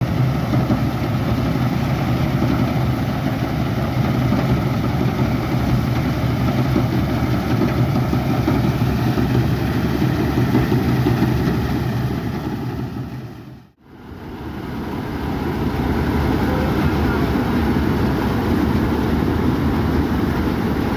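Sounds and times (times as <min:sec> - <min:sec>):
harvesting machine engine humming: 0:00.0 - 0:20.9.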